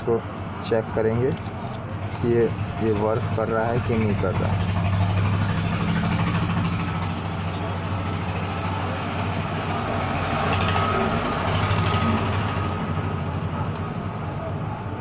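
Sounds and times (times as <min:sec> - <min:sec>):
constant noisy background: 0:00.0 - 0:15.0.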